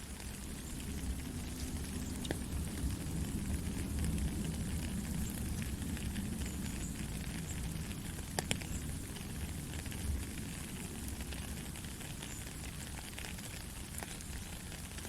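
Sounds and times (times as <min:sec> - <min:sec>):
soft rain patter: 0:00.0 - 0:15.0.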